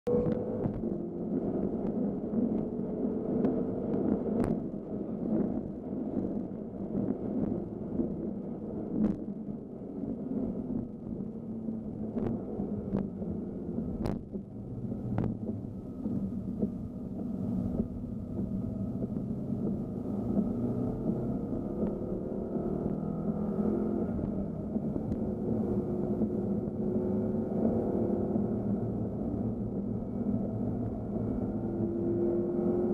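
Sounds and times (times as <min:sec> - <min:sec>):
car engine from inside cabin: 0:00.1 - 0:32.9.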